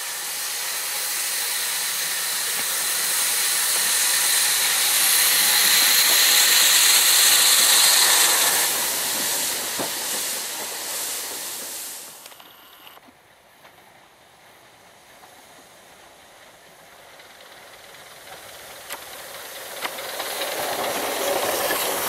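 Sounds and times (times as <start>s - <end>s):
steam locomotive hissing steam: 0.0s - 12.9s, 13.8s - 22.0s.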